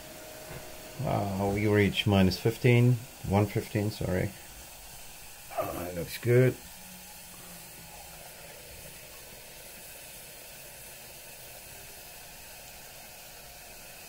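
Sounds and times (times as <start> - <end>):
liquid nitrogen hissing: 0.0 - 14.0.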